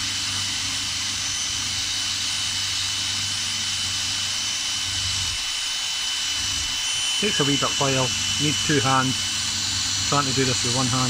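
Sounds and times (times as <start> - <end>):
cordless drill running: 0.0 - 11.0.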